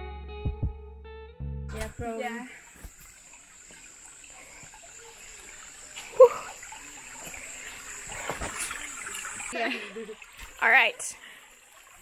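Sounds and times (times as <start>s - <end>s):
stream trickling over rocks: 1.7s - 12.0s.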